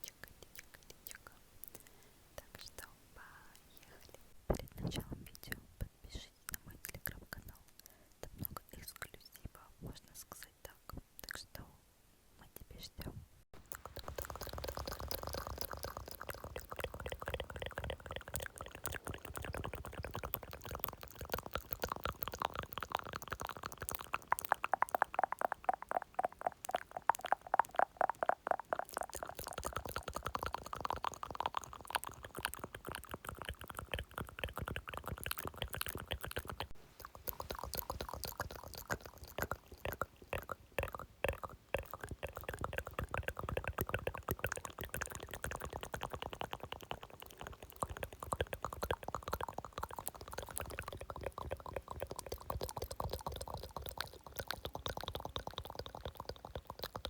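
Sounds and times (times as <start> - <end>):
wet mouth clicks and smacks: 0.0 - 4.3, 13.6 - 57.0.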